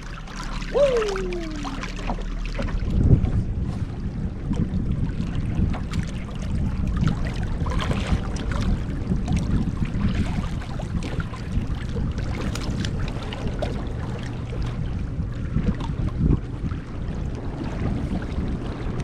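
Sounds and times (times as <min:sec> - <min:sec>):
water lapping against boat hull: 0:00.0 - 0:19.0
wind rumble: 0:00.0 - 0:19.0.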